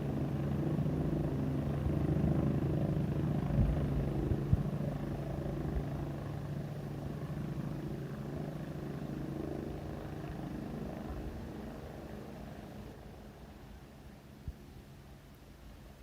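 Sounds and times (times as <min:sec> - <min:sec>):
helicopter rotor pulsing: 0:00.0 - 0:14.2.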